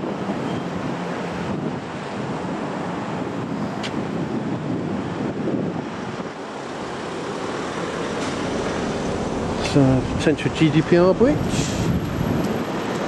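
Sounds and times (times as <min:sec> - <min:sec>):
wind buffeting microphone: 0:00.0 - 0:13.0
traffic rumbling past: 0:01.0 - 0:13.0.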